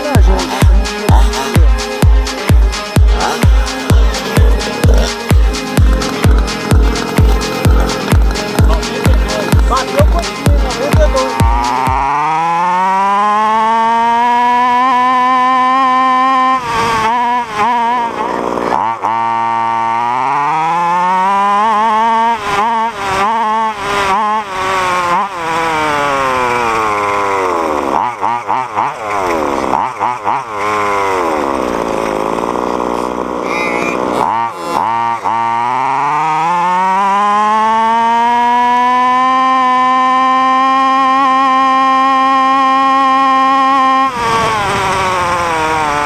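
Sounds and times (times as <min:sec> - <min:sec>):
small two-stroke engine revving: 0:00.0 - 0:46.0.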